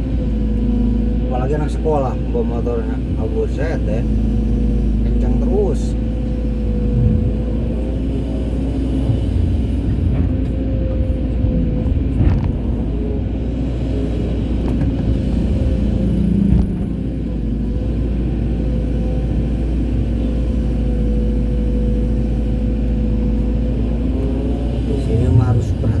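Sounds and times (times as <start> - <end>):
engine whine: 0.0 - 26.0
excavator diesel engine: 0.0 - 26.0.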